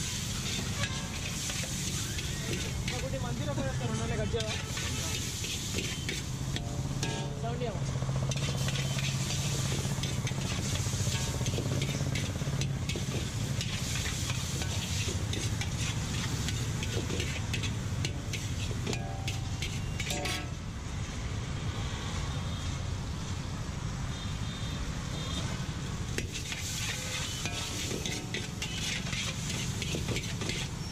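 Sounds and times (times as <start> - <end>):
food sizzling: 0.0 - 20.7, 26.1 - 30.9
metal spatula scraping wok: 0.0 - 20.7, 26.1 - 30.9.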